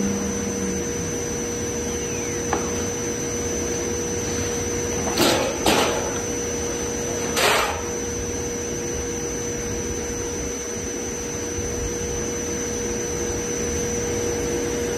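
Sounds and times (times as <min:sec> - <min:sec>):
cnc router humming: 0:00.0 - 0:14.9
spindle whine: 0:00.0 - 0:14.9.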